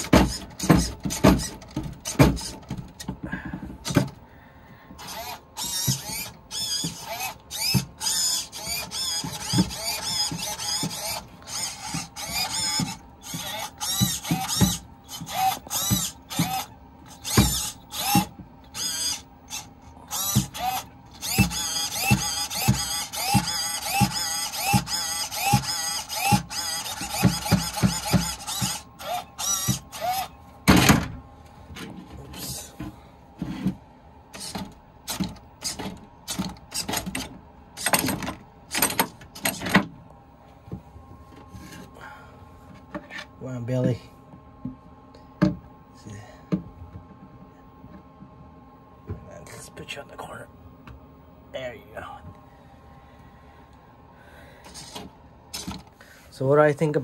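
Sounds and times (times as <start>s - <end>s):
servos whining: 0.0s - 44.2s, 49.2s - 57.0s.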